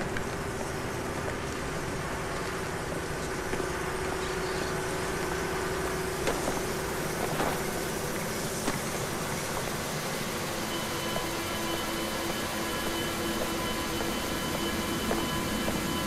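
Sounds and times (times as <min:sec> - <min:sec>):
factory machinery drone: 0:00.0 - 0:16.0.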